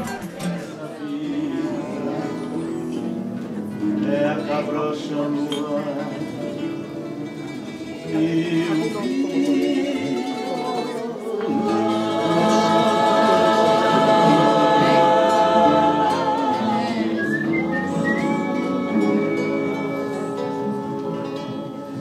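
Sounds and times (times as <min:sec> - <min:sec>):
group singing: 0:00.0 - 0:03.2, 0:03.8 - 0:06.6, 0:07.2 - 0:22.0
acoustic guitars strummed: 0:00.0 - 0:22.0.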